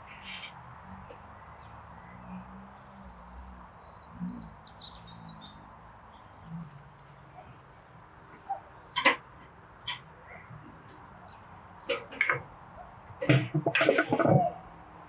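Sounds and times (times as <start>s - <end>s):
small birds chirping: 0.0s - 13.2s.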